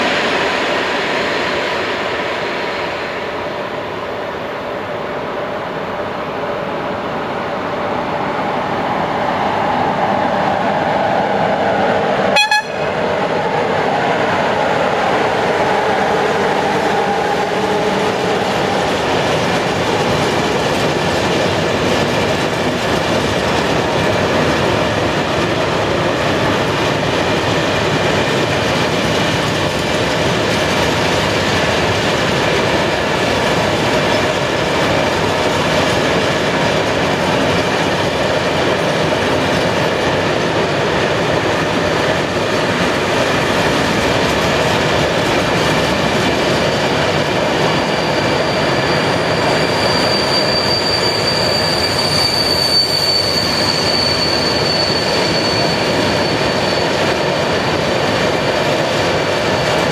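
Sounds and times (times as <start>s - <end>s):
electric locomotive passing: 0.0s - 59.9s.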